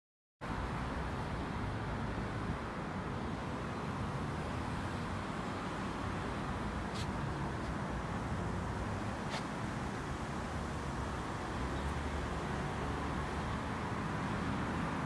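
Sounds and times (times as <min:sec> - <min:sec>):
distant road traffic: 0:00.4 - 0:15.0.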